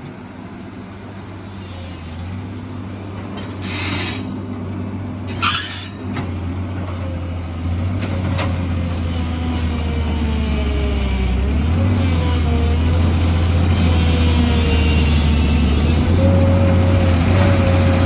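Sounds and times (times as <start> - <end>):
heavy diesel construction machine: 0.0 - 18.0.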